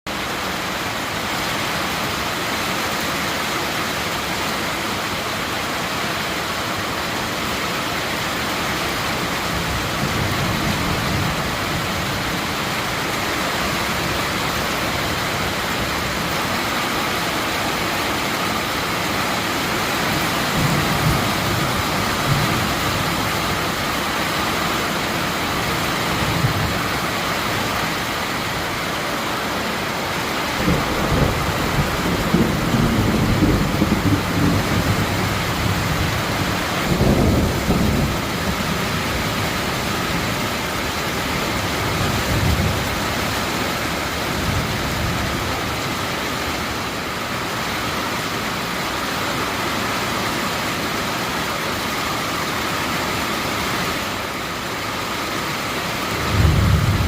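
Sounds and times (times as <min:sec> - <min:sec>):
heavy rain falling: 0:00.1 - 0:57.0.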